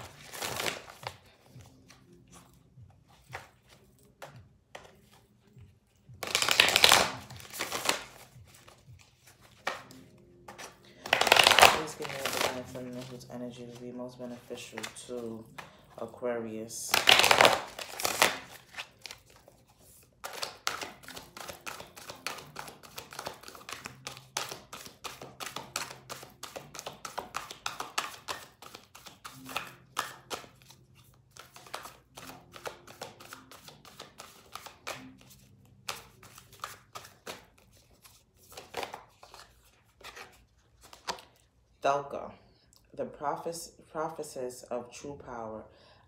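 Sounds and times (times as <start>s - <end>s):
cards shuffling: 0.0s - 41.5s.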